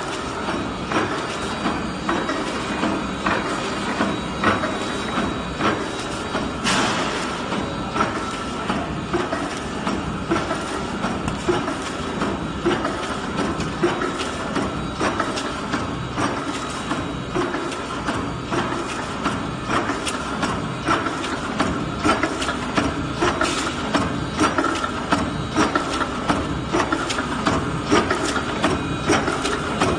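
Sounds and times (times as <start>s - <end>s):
mechanical hum: 0.0s - 29.9s
rapid machine clatter: 0.0s - 29.9s.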